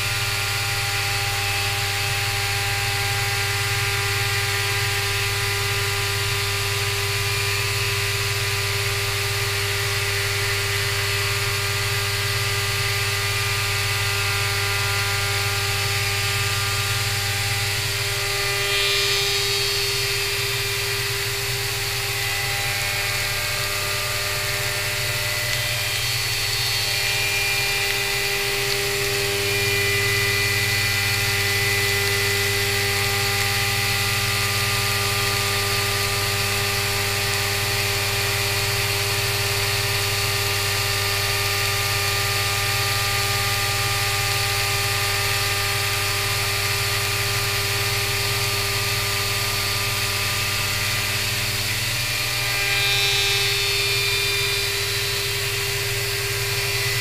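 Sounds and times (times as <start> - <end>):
milling spindle whine: 0.0 - 57.0.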